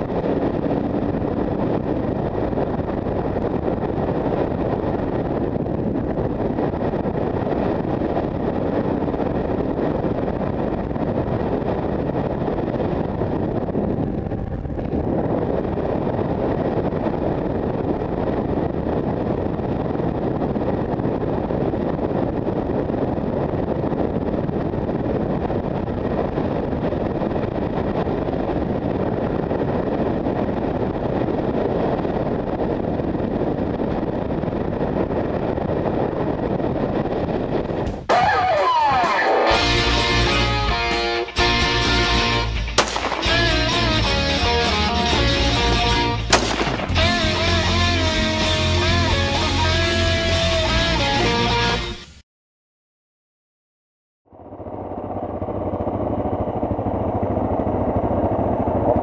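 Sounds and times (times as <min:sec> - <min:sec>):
motorcycle engine drone: 0:00.0 - 0:52.2, 0:54.2 - 0:59.0
wind rush on helmet: 0:00.0 - 0:52.2, 0:54.3 - 0:59.0.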